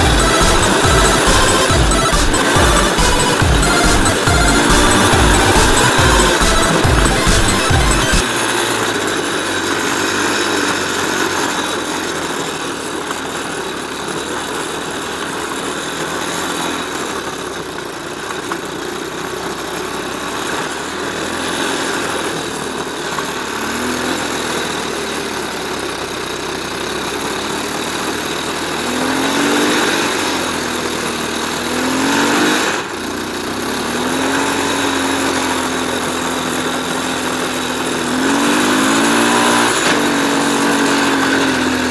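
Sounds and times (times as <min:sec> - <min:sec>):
small off-road engine running: 0:00.0 - 0:41.9.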